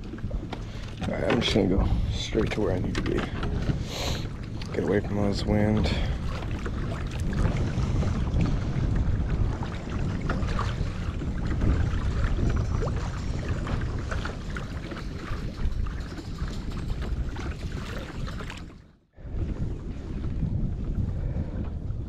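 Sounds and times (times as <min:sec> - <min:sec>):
water lapping against kayak hull: 0:00.0 - 0:22.0
wind buffeting microphone: 0:00.0 - 0:22.0.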